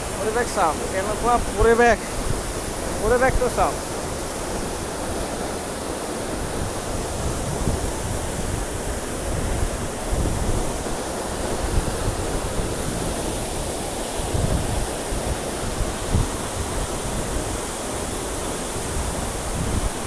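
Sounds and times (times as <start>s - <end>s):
waterfall rushing: 0.0s - 20.0s
wind buffeting microphone: 0.0s - 20.0s.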